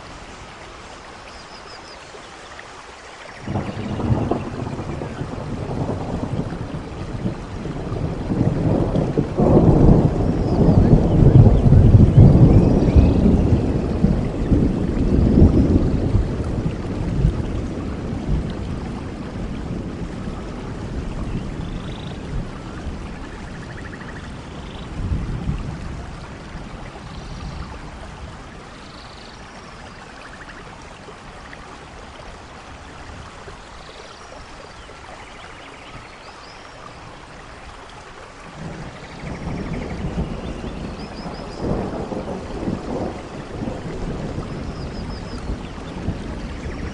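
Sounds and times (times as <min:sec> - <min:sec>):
rain hiss: 0:00.0 - 0:46.9
thunder rumbles: 0:03.4 - 0:33.3, 0:38.4 - 0:46.9.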